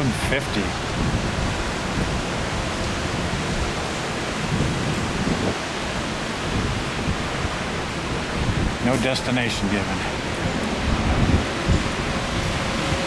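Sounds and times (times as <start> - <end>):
low thunder rumble: 0.0 - 13.0
steady rain falling: 0.0 - 13.0.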